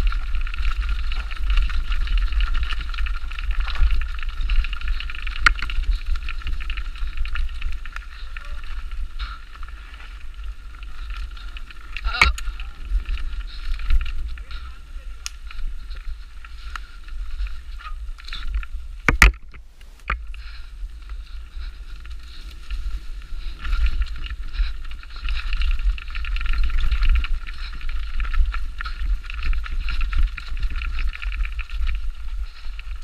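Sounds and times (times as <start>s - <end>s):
mountain bike clattering: 0.0s - 33.0s
wind buffeting microphone: 0.0s - 33.0s.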